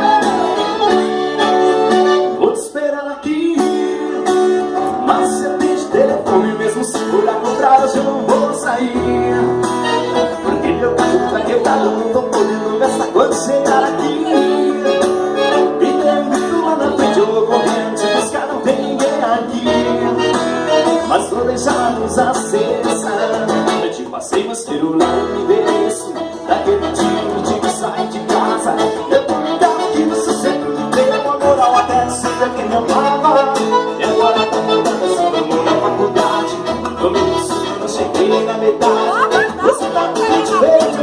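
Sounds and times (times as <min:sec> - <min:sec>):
plucked-string pop melody: 0:00.0 - 0:41.0.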